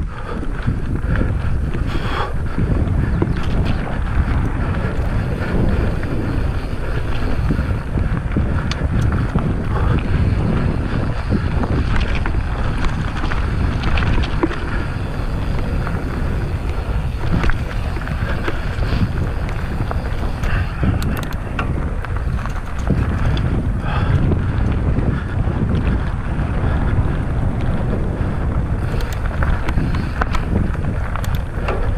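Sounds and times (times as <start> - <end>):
bike tyre noise: 0.0 - 31.9
wind rumble on microphone: 0.0 - 31.9
clicks and knocks from bike: 0.2 - 26.2, 26.9 - 31.9.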